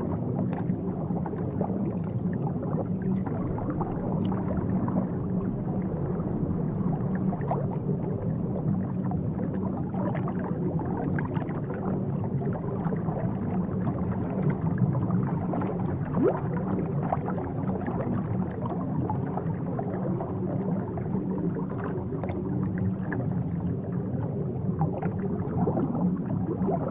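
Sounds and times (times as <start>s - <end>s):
bubbling water crackle: 0.0s - 26.9s.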